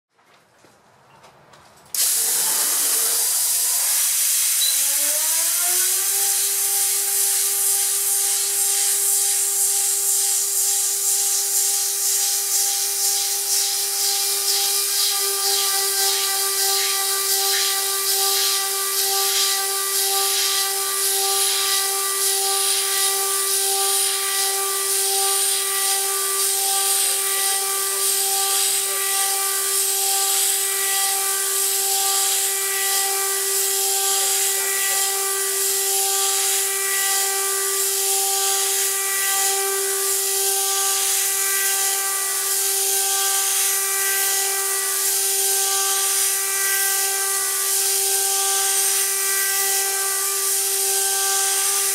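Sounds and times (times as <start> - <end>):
router spindle high whine: 1.9 - 51.9.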